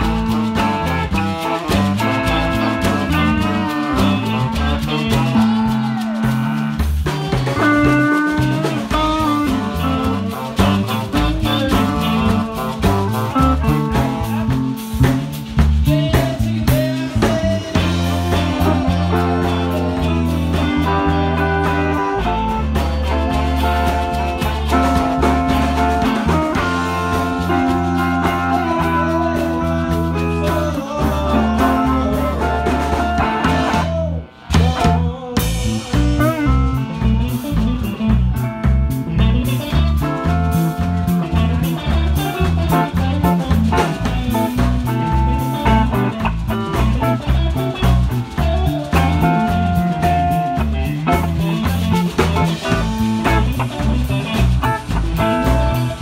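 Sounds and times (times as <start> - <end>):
live blues band: 0.0 - 56.0.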